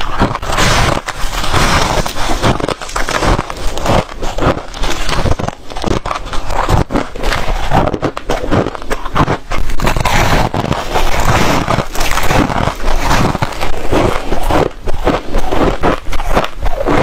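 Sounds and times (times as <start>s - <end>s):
frost being chewed crunching: 0.0s - 17.0s.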